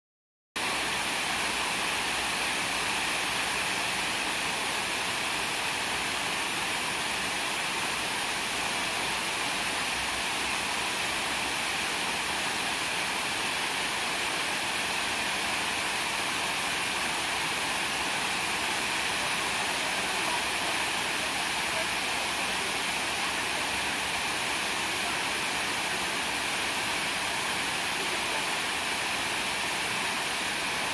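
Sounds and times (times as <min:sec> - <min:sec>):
waterfall rushing: 0:00.6 - 0:30.9.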